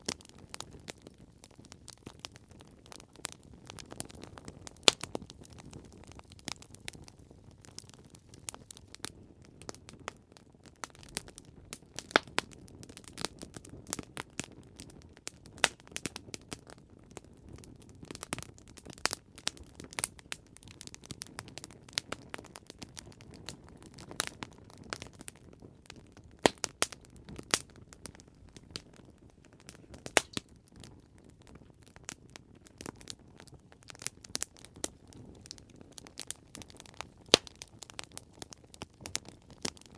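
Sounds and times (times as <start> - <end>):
campfire crackling and popping: 0.0 - 39.9
flames rustling: 0.0 - 39.9.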